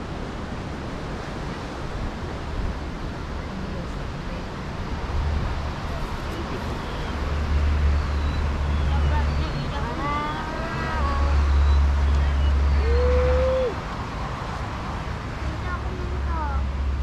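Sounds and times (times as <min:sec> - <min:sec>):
wind noise on microphone: 0:00.0 - 0:15.5.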